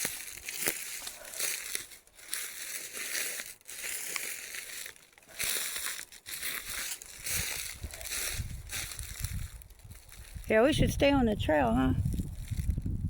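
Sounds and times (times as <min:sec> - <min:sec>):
footsteps crunching through dry leaves: 0:00.0 - 0:10.8, 0:12.0 - 0:12.9.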